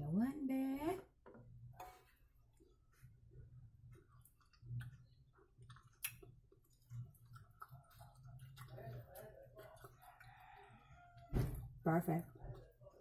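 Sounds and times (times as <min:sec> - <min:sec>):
person chewing food: 0:02.2 - 0:13.0.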